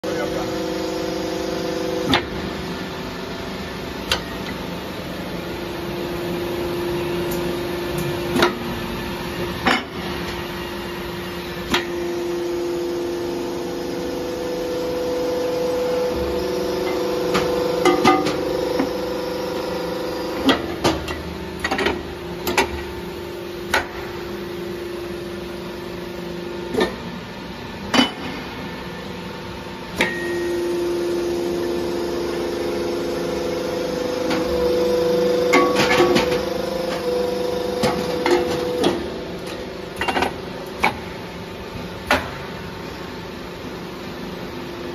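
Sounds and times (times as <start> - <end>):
machine motor hum: 0.0 - 26.7, 28.8 - 44.9.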